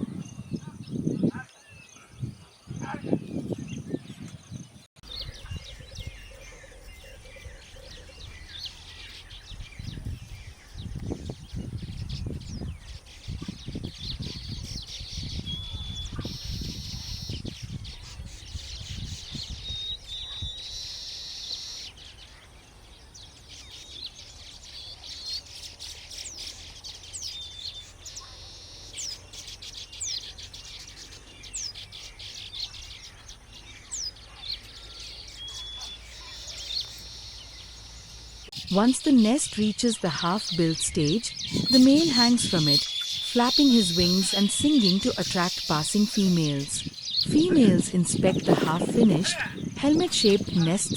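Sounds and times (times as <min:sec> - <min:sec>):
weaver birds chirping: 0:00.0 - 0:50.9.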